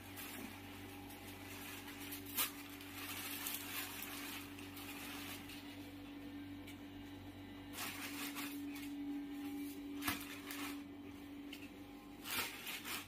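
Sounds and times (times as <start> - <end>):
plastic wrapping crinkling: 0.0 - 6.0, 7.6 - 10.9, 11.5 - 13.0
steady low hum: 0.0 - 13.0.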